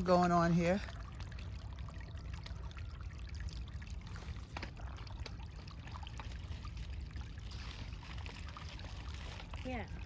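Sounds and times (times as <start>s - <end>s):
stream trickling: 0.0s - 10.0s.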